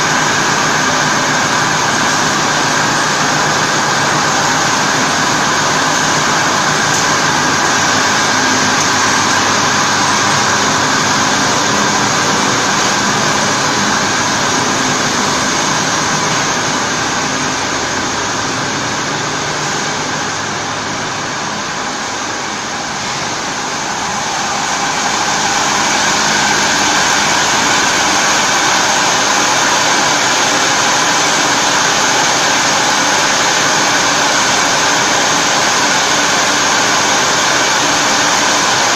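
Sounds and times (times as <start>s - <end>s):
high machine whine: 0.0s - 38.9s
machine motors humming and hissing: 0.0s - 38.9s.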